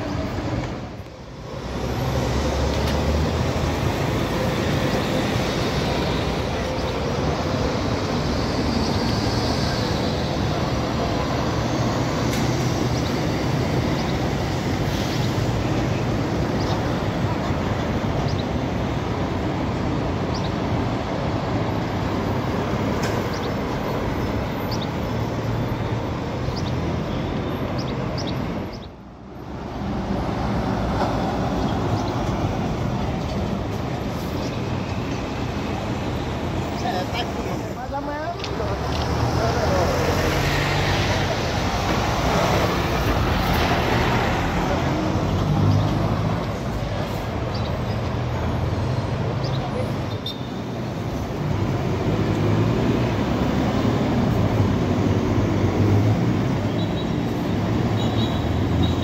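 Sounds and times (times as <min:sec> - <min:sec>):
buses and cars passing: 0:00.0 - 0:59.0
engine rumble and tyre noise: 0:00.0 - 0:59.0.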